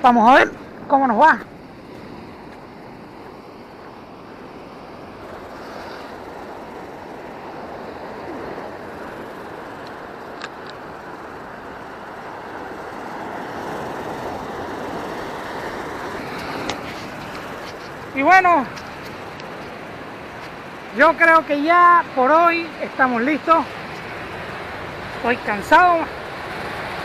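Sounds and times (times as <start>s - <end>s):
ocean surf breaking on rocks: 0.0s - 27.0s.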